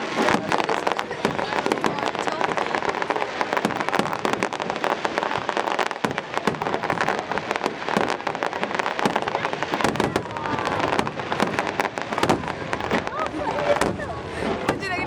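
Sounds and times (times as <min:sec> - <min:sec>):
fireworks crackling and popping: 0:00.0 - 0:15.0
loud fireworks bangs: 0:00.0 - 0:15.0.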